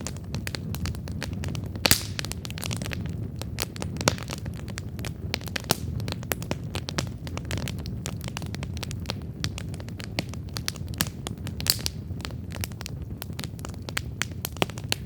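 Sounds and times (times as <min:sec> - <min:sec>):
low rumble of flame: 0:00.0 - 0:15.0
wood fire crackling and popping: 0:00.0 - 0:15.0.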